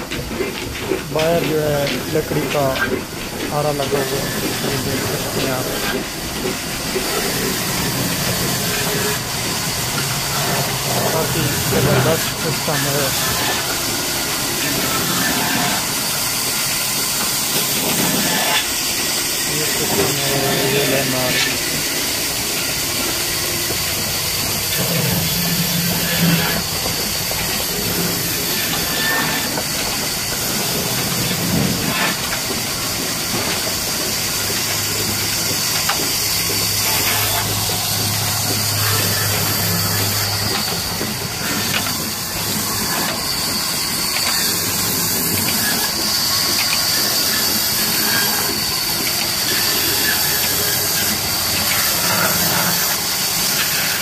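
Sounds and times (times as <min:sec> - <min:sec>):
line shaft and pulleys running: 0:00.0 - 0:54.0.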